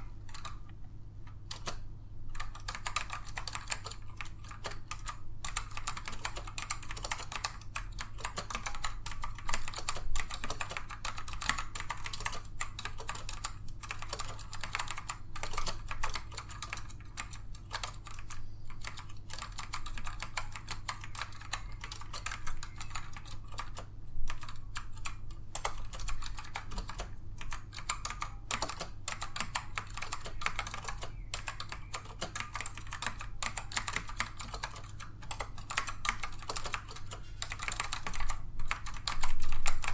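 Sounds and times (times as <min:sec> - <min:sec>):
typing on mechanical keyboard: 0:00.0 - 0:00.6, 0:01.5 - 0:39.9
steady low hum: 0:00.0 - 0:39.9.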